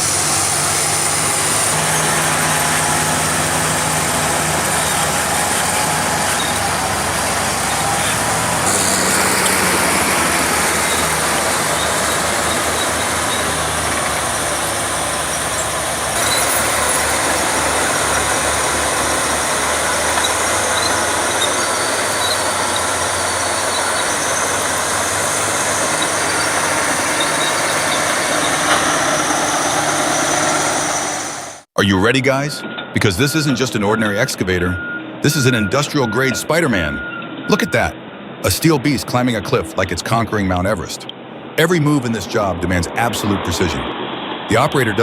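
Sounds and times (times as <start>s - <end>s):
diesel engine rumble: 0.0s - 45.0s.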